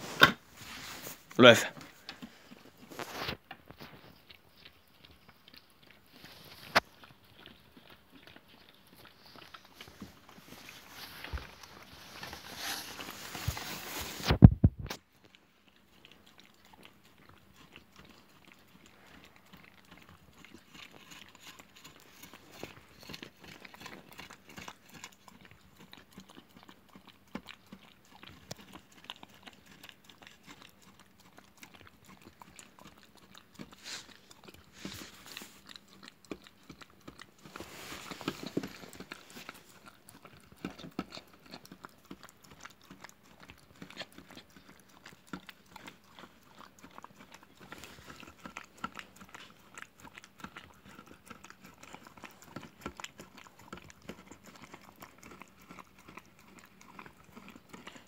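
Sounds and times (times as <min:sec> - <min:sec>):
dog licking and lapping: 0:00.0 - 0:58.0.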